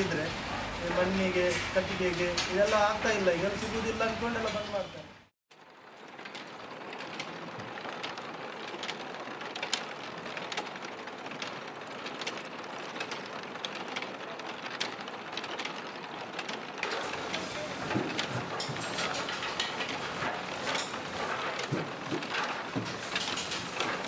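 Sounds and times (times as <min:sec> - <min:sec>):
machinery clattering and clicking: 0:00.0 - 0:24.0.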